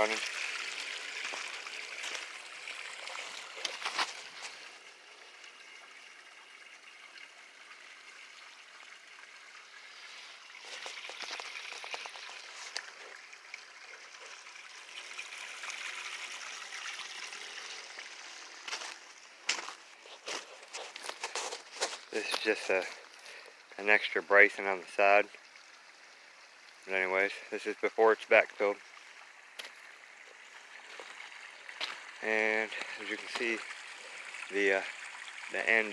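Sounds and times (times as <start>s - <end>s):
water trickling through a ditch: 0.0s - 35.9s.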